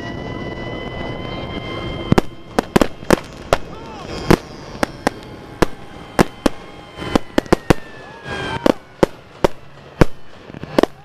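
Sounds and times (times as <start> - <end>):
high engine note: 0.0 - 10.9
firecrackers banging: 0.0 - 11.0.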